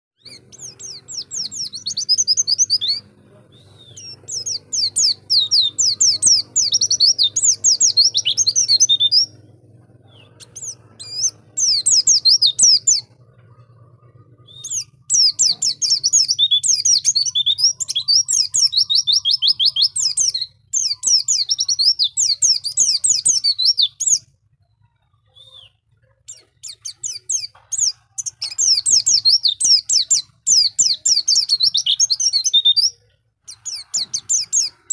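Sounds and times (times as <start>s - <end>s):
bird twittering song: 0.2s - 34.9s.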